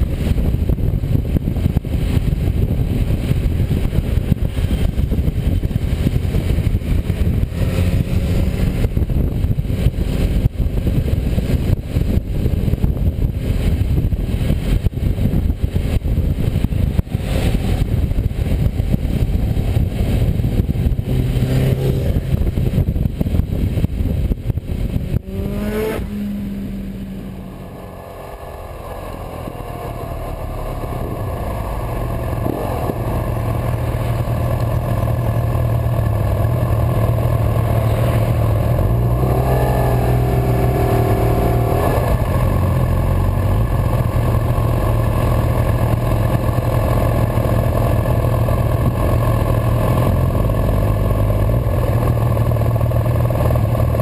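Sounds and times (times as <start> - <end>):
motorcycle engine: 0.0 - 54.0
wind buffeting microphone: 0.0 - 54.0.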